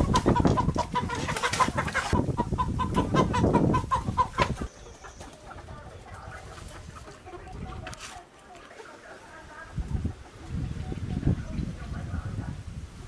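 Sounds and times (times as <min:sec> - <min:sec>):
chickens clucking and squawking: 0:00.0 - 0:12.6.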